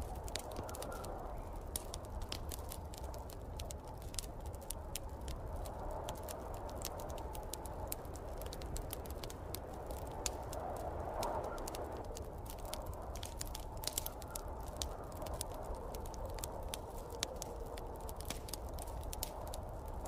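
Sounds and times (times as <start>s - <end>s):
rushing wind: 0.0s - 20.0s
wood fire crackling: 0.0s - 20.0s.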